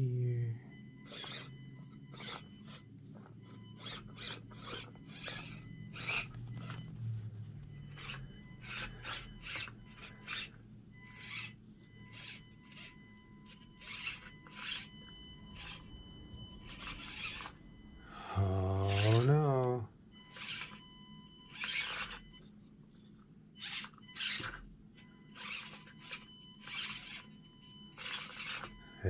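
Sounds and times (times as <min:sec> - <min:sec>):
small electric motor whirring: 0:00.7 - 0:29.0.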